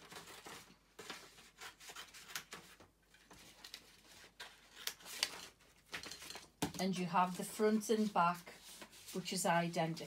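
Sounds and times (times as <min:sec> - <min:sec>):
paper rustling and crackling: 0:00.0 - 0:09.4.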